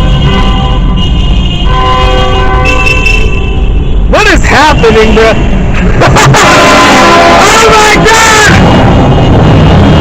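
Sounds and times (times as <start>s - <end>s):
car horns blasting: 0.0s - 10.0s
low rumble of engines: 0.0s - 10.0s.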